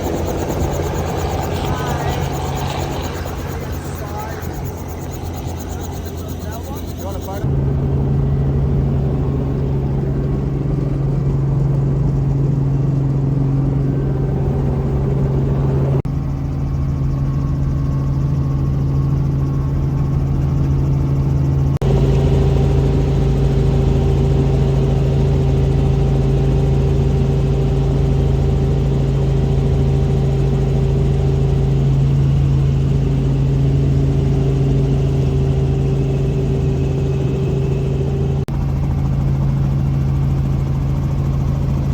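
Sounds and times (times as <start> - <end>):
helicopter engine and rotor drone: 0.0 - 41.9.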